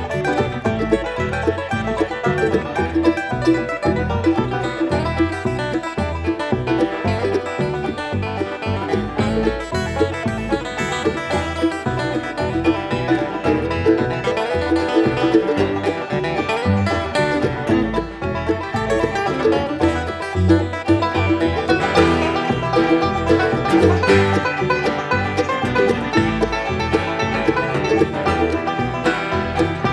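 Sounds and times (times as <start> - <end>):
banjo picking: 0.0 - 29.9
bass line: 0.0 - 29.9
guitar: 0.0 - 29.9.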